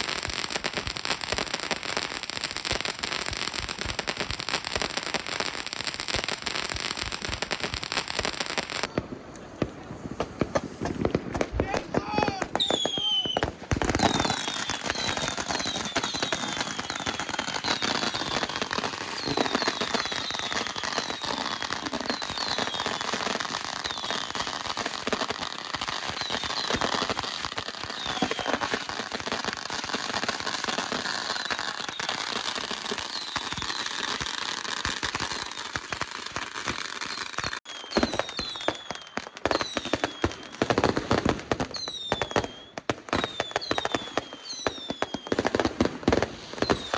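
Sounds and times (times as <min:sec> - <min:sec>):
firework bangs: 0:00.0 - 0:46.9
fireworks crackling and popping: 0:00.0 - 0:46.9
fireworks whistles: 0:00.0 - 0:46.9.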